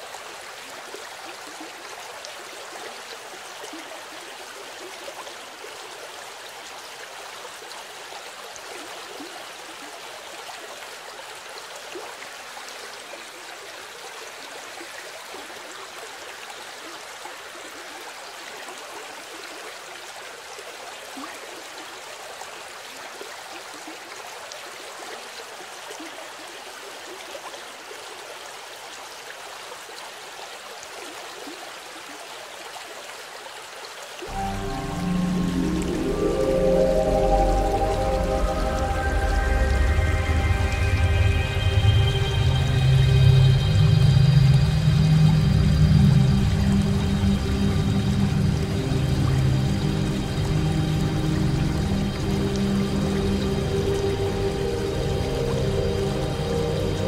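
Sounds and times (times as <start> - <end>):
stream water running: 0.0 - 57.0.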